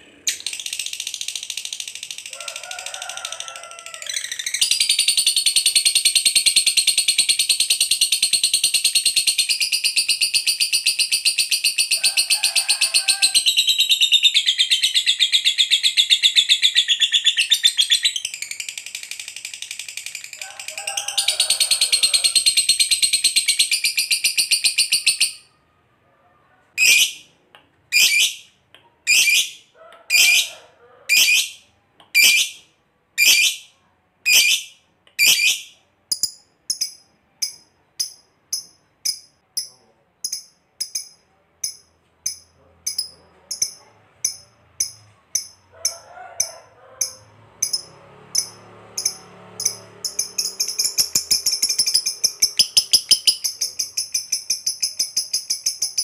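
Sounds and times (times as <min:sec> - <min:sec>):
lovebird chattering and calling: 0:00.2 - 0:25.5, 0:26.8 - 0:27.2, 0:27.9 - 0:32.6, 0:33.2 - 0:46.0, 0:47.0 - 0:56.0.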